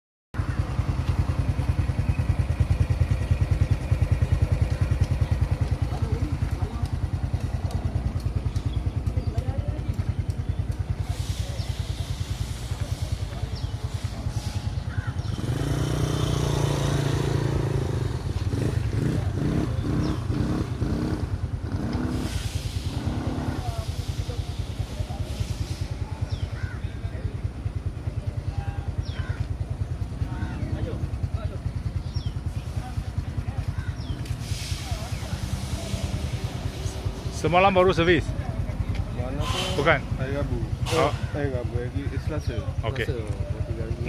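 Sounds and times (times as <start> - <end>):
motorcycle engine idling: 0.4 - 44.0.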